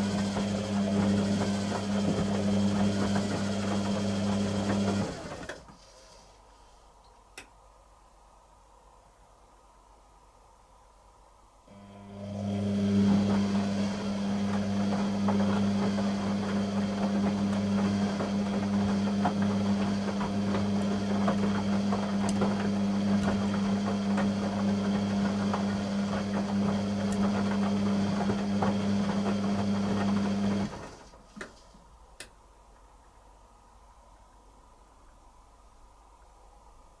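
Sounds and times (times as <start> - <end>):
washing machine hum: 0.0 - 6.3, 11.7 - 37.0.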